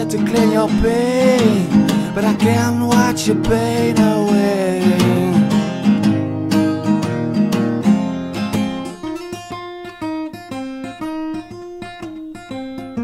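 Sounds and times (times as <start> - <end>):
acoustic guitar blues: 0.0 - 13.0.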